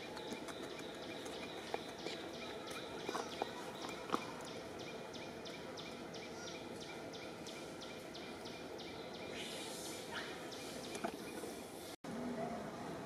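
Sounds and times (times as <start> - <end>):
forest background hiss: 0.0 - 13.0.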